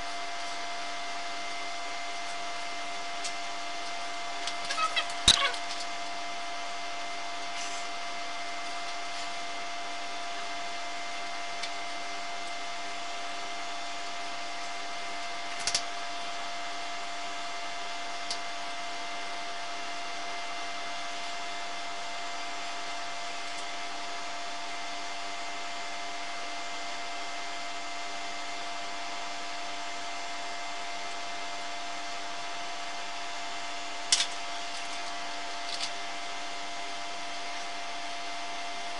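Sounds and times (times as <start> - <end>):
steady hum with whining tones: 0.0 - 38.9.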